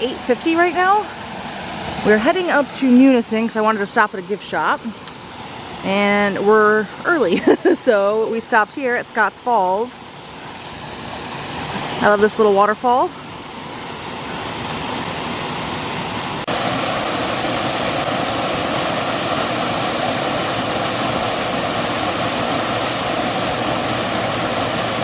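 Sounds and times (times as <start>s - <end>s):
waterfall pouring and rushing: 0.0s - 25.0s.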